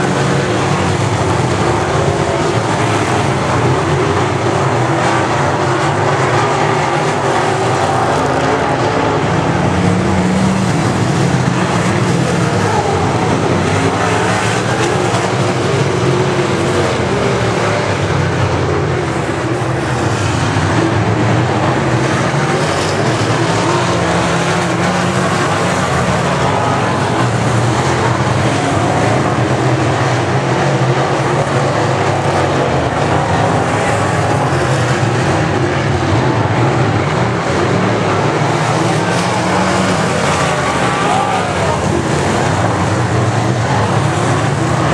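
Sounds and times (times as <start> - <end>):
race car engines at full throttle: 0.0 - 44.9.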